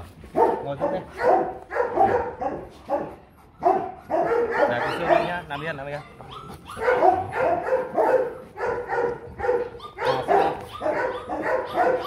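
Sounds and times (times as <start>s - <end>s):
dog barking: 0.3s - 12.0s.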